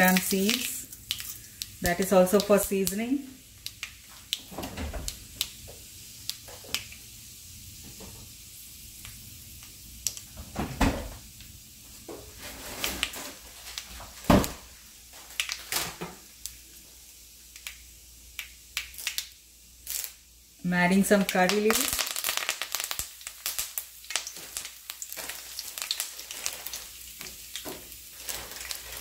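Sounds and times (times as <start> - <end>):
seeds frying in oil: 0.0 - 10.4, 11.2 - 29.0.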